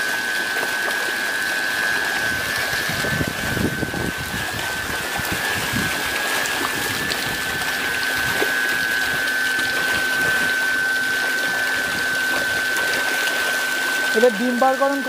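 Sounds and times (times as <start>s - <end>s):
fish splashing at surface: 0.0s - 15.0s
steady high-pitched whine: 0.0s - 15.0s
water rushing and churning: 0.0s - 15.0s.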